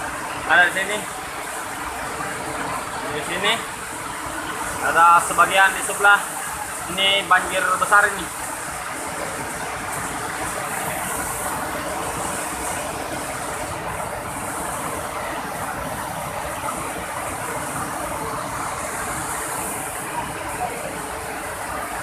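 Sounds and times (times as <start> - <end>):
river water roaring over weir: 0.0 - 22.0.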